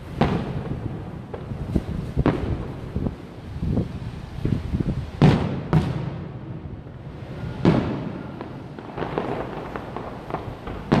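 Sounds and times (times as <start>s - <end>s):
fireworks dull thuds: 0.0s - 3.2s, 4.4s - 6.6s, 7.6s - 11.0s
fireworks loud booms: 0.0s - 11.0s.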